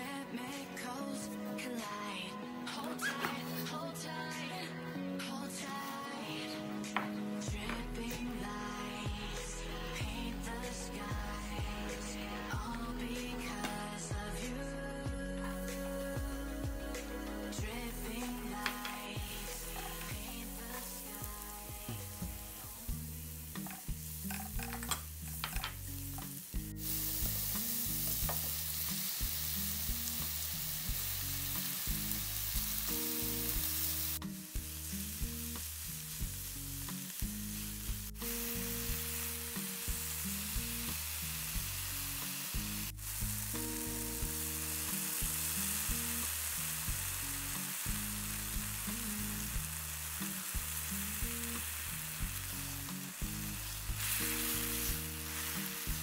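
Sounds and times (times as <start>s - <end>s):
background music with bass line: 2.7s - 56.0s
oil sizzling in a frying pan: 6.9s - 14.4s, 15.4s - 56.0s.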